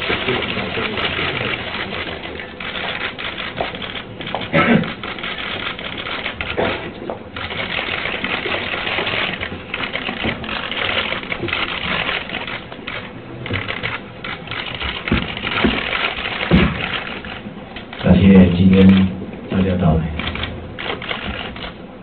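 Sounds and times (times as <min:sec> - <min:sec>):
camera shutters clicking: 0:00.0 - 0:21.8.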